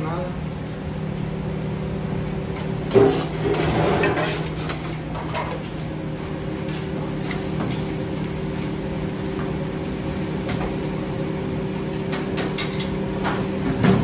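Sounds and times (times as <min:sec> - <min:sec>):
kitchen machinery hum: 0:00.0 - 0:14.0.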